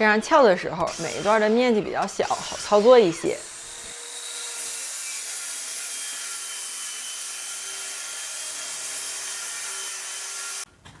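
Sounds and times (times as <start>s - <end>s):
circular saw cutting wood flooring: 0.0s - 10.7s.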